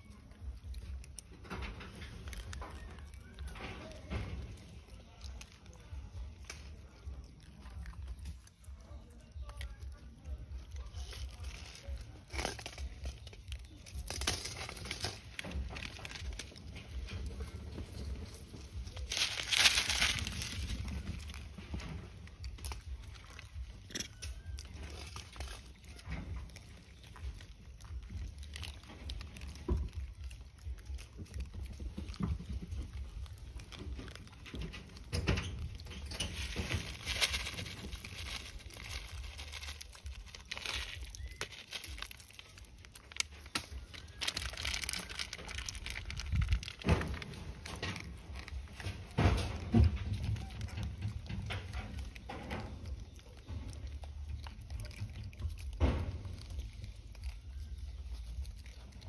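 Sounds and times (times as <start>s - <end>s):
soft rustles crunches and clicks: 0.0s - 59.0s.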